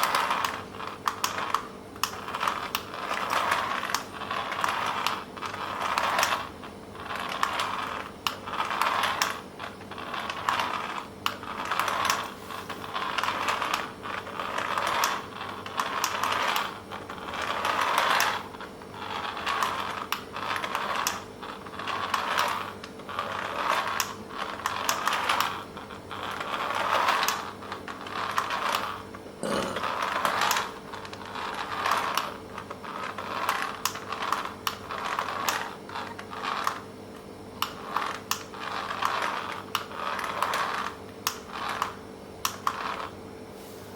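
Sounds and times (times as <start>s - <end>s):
toy car motor whirring: 0.0s - 29.1s, 29.8s - 36.8s, 37.6s - 43.1s.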